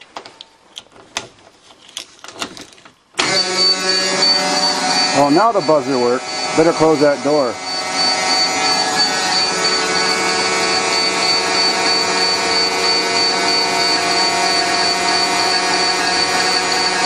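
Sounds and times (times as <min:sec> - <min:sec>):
bus warning buzzer: 0:03.2 - 0:17.0.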